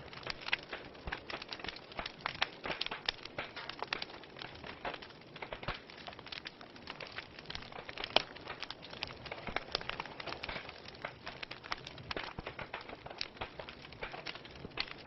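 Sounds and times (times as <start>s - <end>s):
logs crackling and popping: 0.0s - 15.0s.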